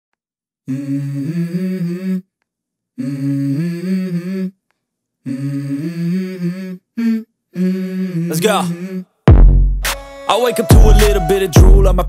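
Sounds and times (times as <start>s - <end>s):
hummed vocal melody: 0.6s - 9.2s, 10.3s - 12.0s.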